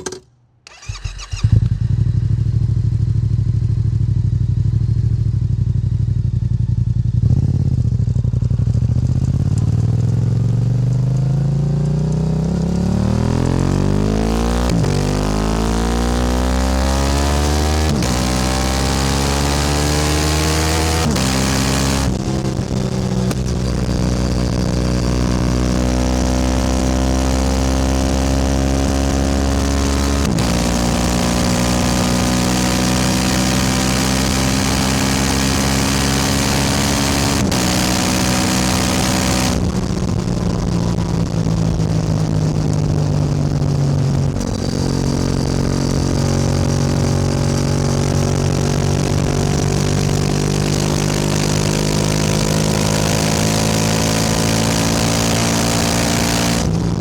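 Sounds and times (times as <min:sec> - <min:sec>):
motorcycle engine running: 0:00.0 - 0:16.4, 0:17.3 - 0:57.0.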